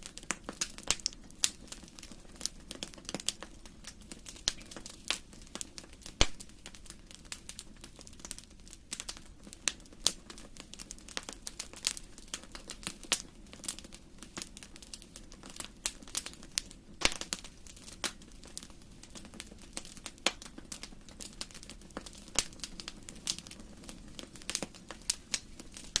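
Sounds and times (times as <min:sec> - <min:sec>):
faint low hiss: 0:00.0 - 0:26.0
fire crackling: 0:00.0 - 0:26.0.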